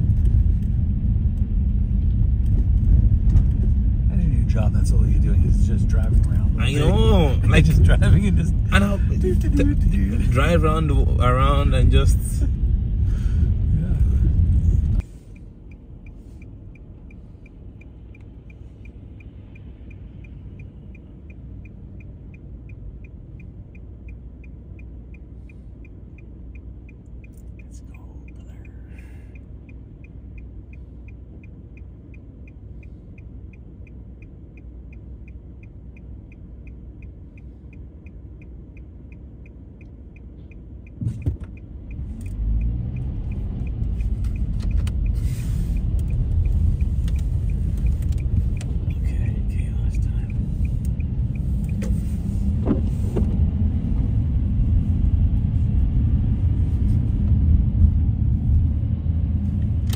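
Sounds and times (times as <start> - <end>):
car engine rumble: 0.0 - 59.9
turn signal ticking: 0.0 - 59.9.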